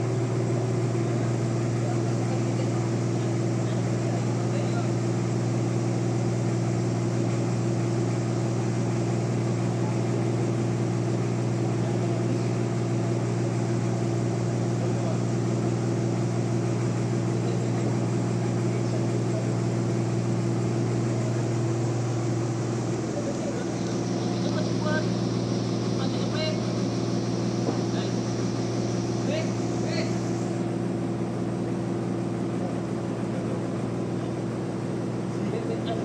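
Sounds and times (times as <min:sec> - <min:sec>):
bandsaw machinery drone with hiss: 0:00.0 - 0:30.8.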